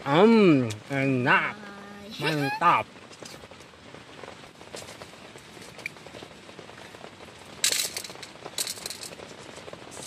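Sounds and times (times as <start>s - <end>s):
rain pattering on a tent: 0.0s - 10.0s.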